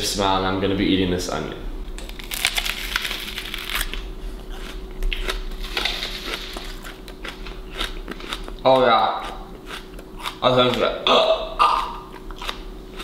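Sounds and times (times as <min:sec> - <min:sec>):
raw onion crunching when bitten: 0:02.0 - 0:13.0.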